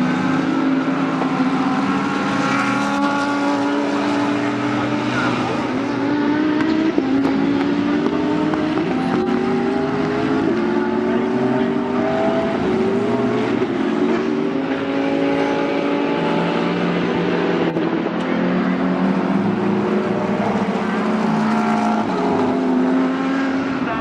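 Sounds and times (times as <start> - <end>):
race car engines accelerating: 0.0 - 24.0.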